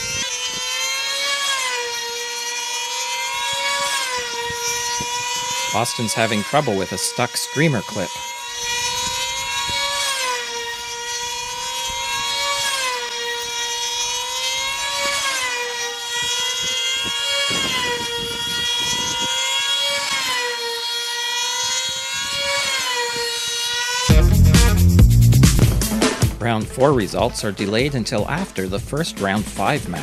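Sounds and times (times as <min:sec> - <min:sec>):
model plane engines whining: 0:00.0 - 0:24.8.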